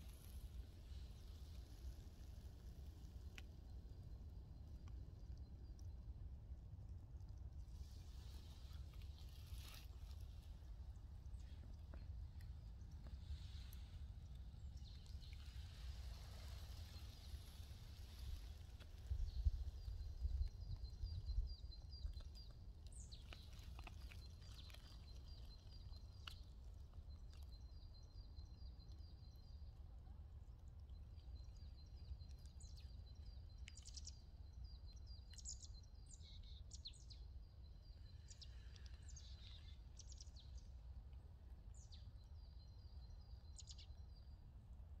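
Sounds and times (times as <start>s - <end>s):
small birds chirping: 0.0s - 44.5s.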